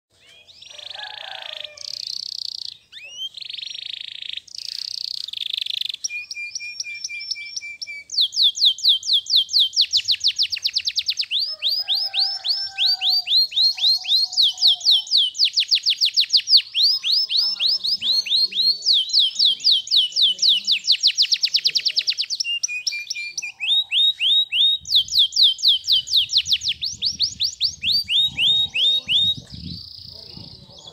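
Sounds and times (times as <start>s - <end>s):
canary singing: 0.1s - 30.9s.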